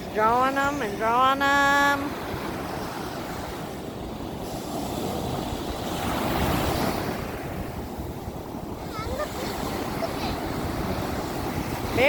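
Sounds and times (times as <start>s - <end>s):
ocean surf washing onto beach: 0.0s - 12.0s
wind rumbling on microphone: 0.0s - 12.0s.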